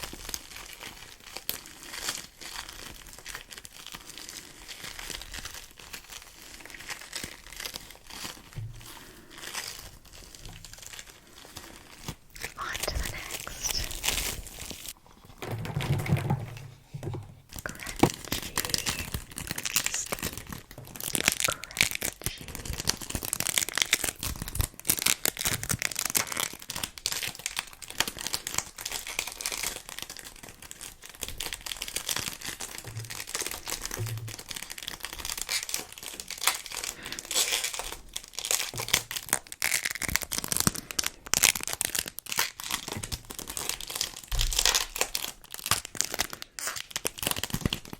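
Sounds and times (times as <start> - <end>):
sticky foam crackling and peeling: 0.1 - 15.0, 17.6 - 47.9.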